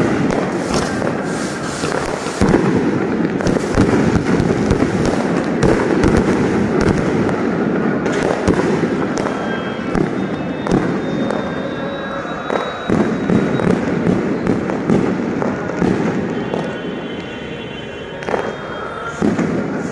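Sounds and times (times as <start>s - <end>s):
fireworks bangs: 0.0s - 19.9s
fireworks crackling: 0.0s - 19.9s.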